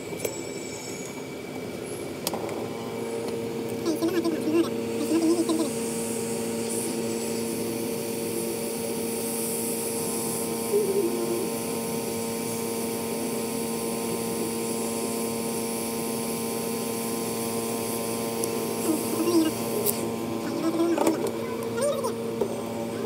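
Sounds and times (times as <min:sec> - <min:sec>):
fan hum: 0:00.0 - 0:23.0
hot air blower hiss: 0:00.0 - 0:23.0.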